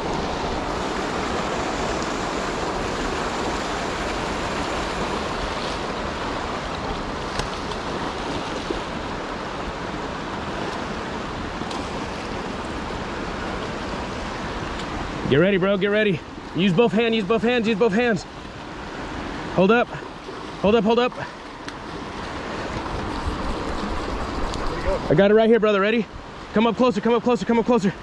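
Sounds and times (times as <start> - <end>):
river rapids rushing: 0.0 - 25.4.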